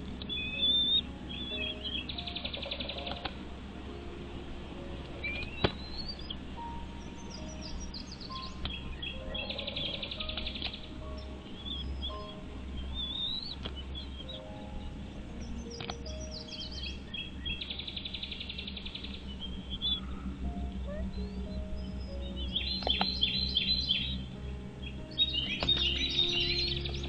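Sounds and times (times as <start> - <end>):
birds chirping: 0.0 - 27.0
soft background music: 0.0 - 27.0.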